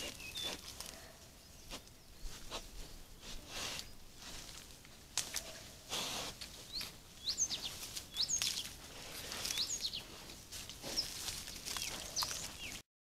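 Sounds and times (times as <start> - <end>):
faint outdoor background: 0.0 - 12.8
songbird chirping: 0.0 - 12.8.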